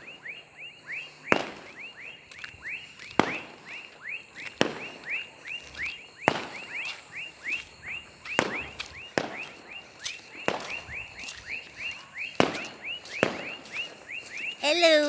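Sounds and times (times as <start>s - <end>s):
night chorus of chirping animals: 0.0s - 15.0s.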